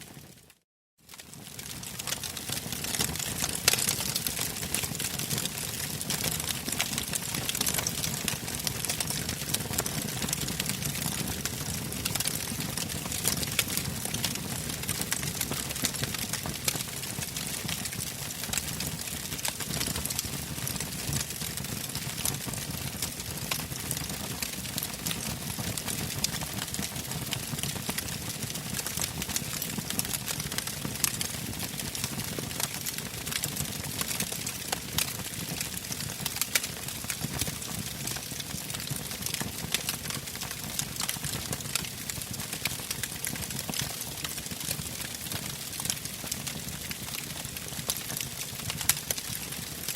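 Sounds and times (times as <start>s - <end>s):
wood fire crackling: 1.1s - 49.9s.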